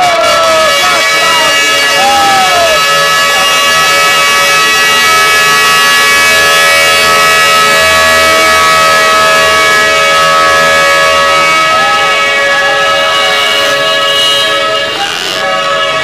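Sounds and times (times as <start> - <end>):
horns droning: 0.0 - 16.0.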